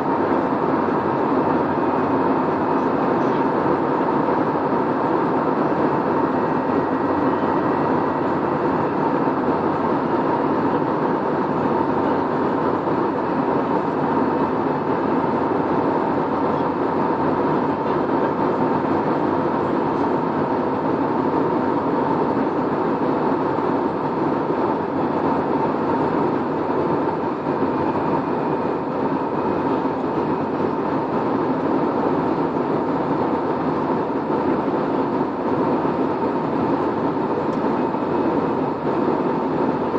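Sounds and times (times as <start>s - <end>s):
airliner cabin noise: 0.0s - 39.9s.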